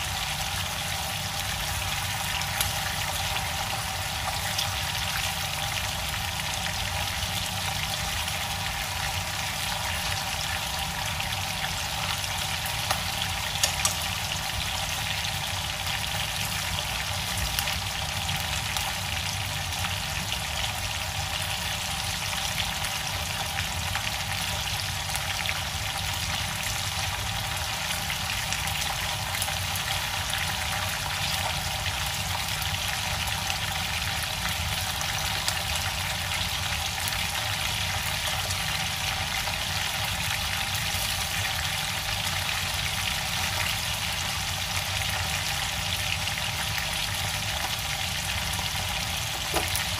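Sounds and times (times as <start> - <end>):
fish frying in oil: 0.0 - 49.9.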